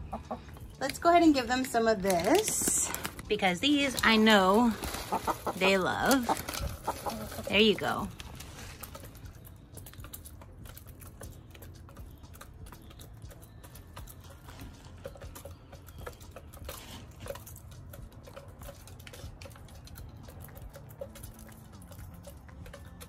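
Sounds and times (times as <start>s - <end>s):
hens pecking beak taps: 0.0s - 23.0s.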